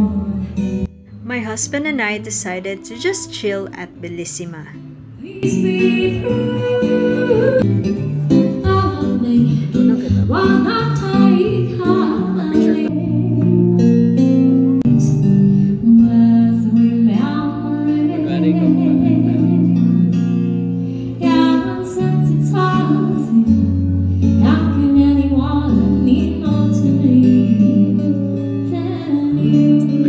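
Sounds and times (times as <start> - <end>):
song with singing over guitar: 5.2 - 30.0.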